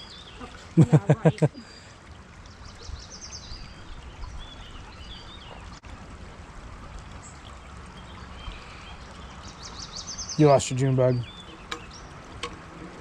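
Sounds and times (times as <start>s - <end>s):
small birds chirping: 0.0s - 5.8s, 7.2s - 12.6s
creek water running: 0.0s - 13.0s.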